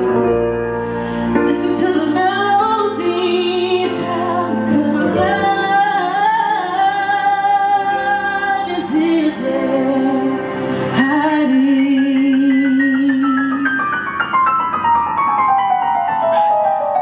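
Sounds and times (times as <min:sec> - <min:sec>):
person singing a ballad: 0:00.0 - 0:14.4
backing track: 0:00.0 - 0:17.0.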